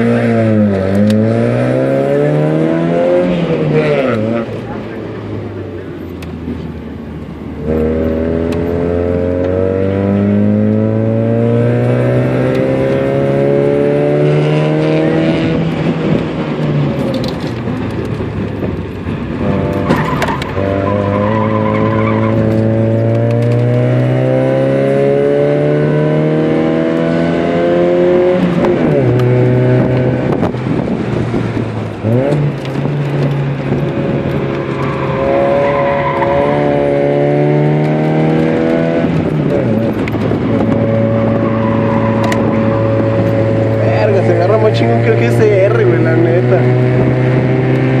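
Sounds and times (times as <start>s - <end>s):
car engine revving at full throttle: 0.0s - 48.0s.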